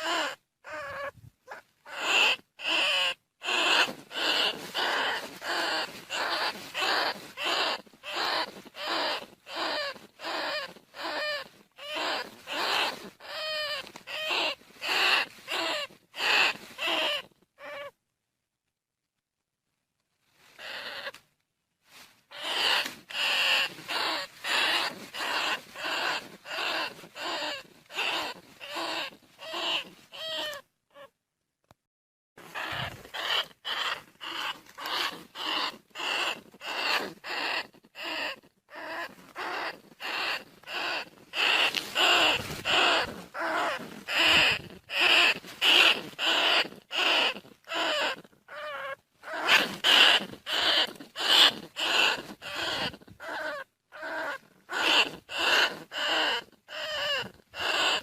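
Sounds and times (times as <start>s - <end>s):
rat squeaking: 0.0s - 17.9s, 20.6s - 21.2s, 22.3s - 31.1s, 32.4s - 58.0s.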